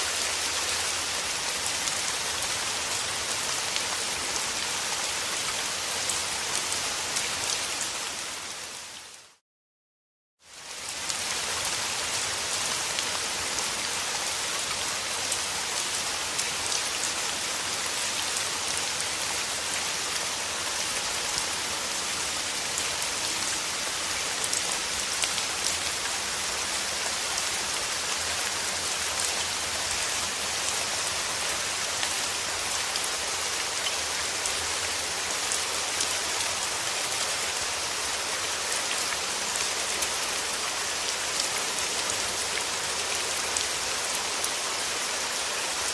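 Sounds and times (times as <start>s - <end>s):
steady rain: 0.0s - 9.4s, 10.4s - 45.9s.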